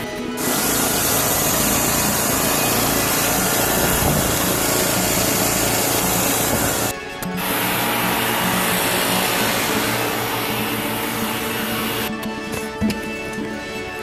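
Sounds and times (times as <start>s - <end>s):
saw blade cutting log: 0.4s - 12.1s.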